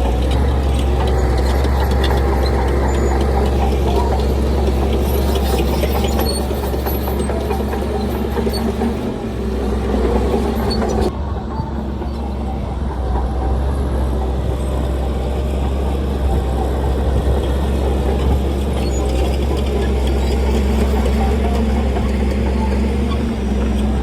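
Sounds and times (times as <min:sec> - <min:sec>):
diesel machinery engine rumble: 0:00.0 - 0:24.0
higher mechanical clatter: 0:00.2 - 0:24.0.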